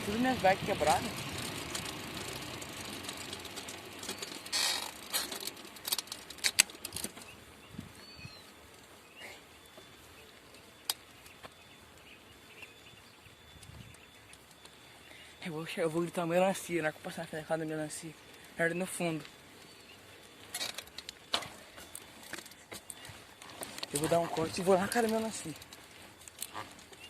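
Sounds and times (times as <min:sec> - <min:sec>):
bicycle riding: 0:00.0 - 0:27.0.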